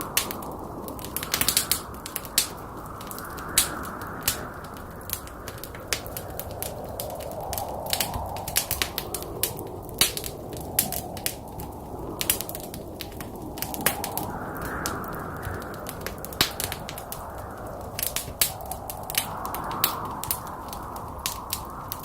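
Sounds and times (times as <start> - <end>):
fire popping and crackling: 0.0 - 22.0
low rush of flames: 0.0 - 22.0.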